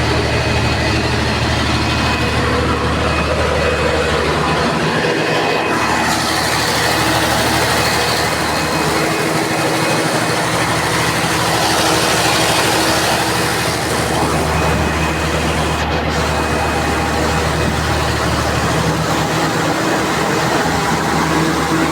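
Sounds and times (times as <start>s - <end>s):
diesel generator engine running: 0.0s - 21.9s.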